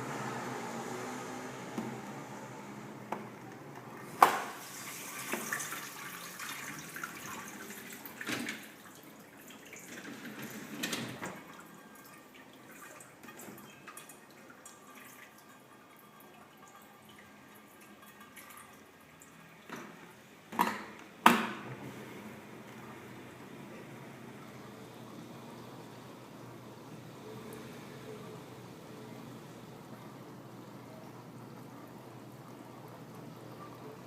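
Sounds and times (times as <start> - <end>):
dishwasher water splashing: 0.0 - 31.8.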